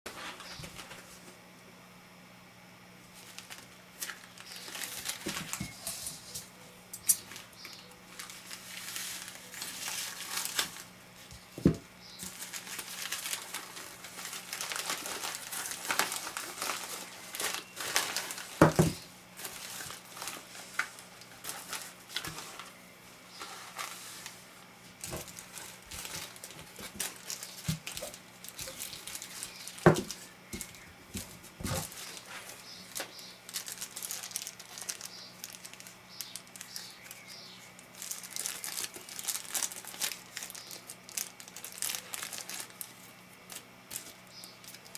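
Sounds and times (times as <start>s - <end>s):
plastic mailer crinkling: 0.1s - 1.2s, 3.1s - 44.9s.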